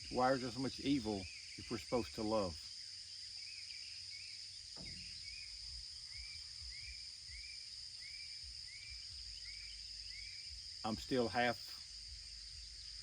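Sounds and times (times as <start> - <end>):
insect chirping: 0.0 - 13.0
insect drone: 0.0 - 13.0.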